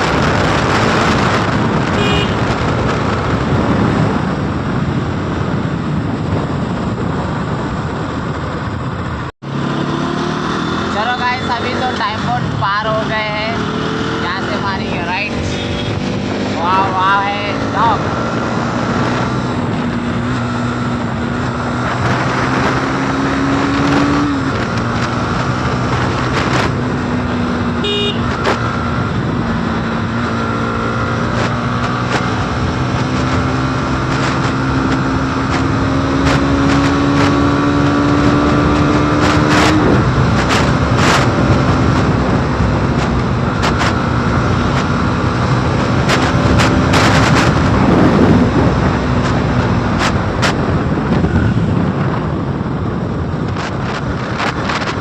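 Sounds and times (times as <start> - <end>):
motorcycle engine accelerating: 0.0 - 55.0
wind rush: 0.0 - 55.0.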